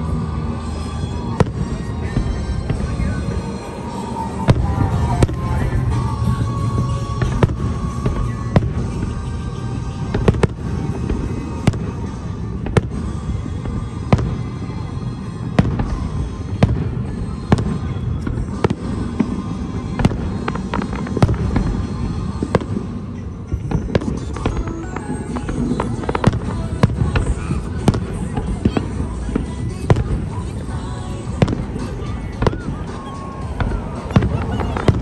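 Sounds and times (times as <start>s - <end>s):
fireworks bangs: 0.0s - 35.0s
low rumble of explosions: 0.0s - 35.0s.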